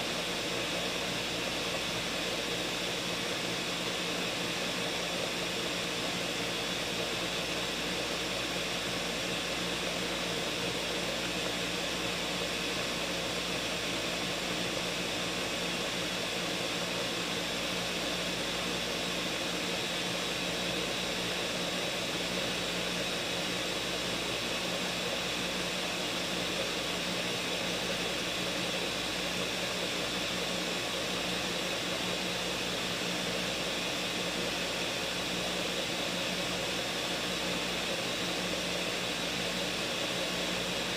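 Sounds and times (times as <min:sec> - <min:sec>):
blender motor running: 0:00.0 - 0:40.9.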